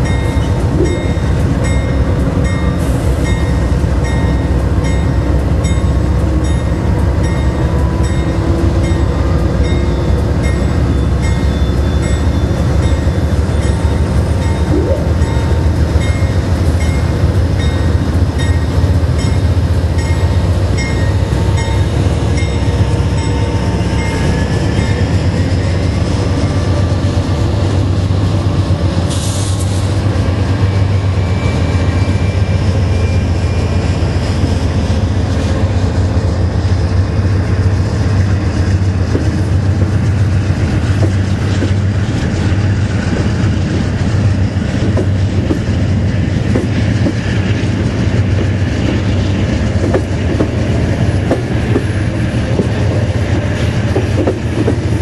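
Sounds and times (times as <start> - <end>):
diesel locomotive passing: 0.0 - 55.0
train wheels rumbling on rails: 0.0 - 55.0.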